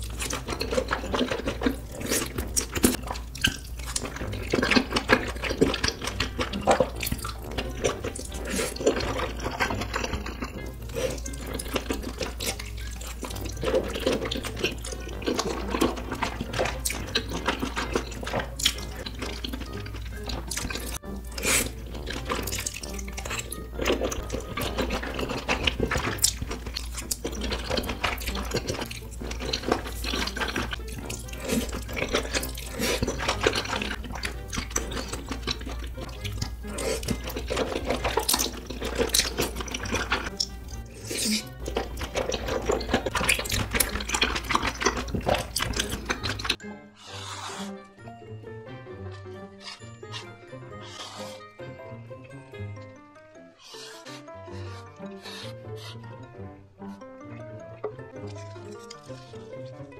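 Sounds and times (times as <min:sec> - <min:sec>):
wet chewing and slurping noodles: 0:00.0 - 0:48.0, 0:48.9 - 0:56.2, 0:57.8 - 0:59.9.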